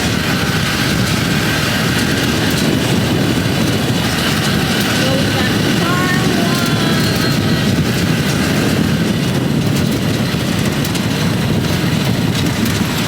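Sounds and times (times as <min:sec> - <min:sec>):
farm cart engine running: 0:00.0 - 0:13.0.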